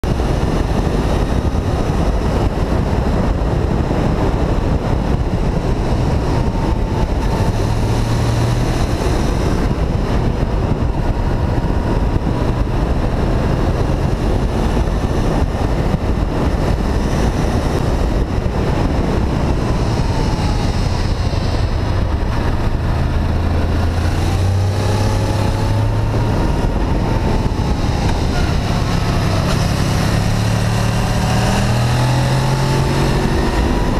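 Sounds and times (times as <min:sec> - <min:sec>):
heavy wind noise: 0:00.0 - 0:33.9
motorcycle engine running: 0:00.0 - 0:33.9.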